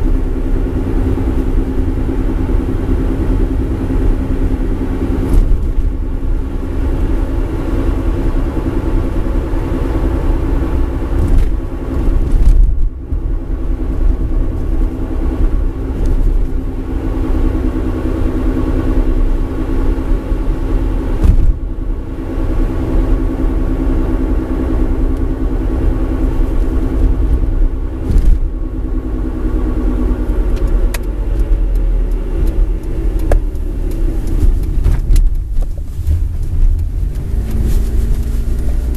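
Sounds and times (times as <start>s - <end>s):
road and drivetrain noise: 0.0s - 38.9s.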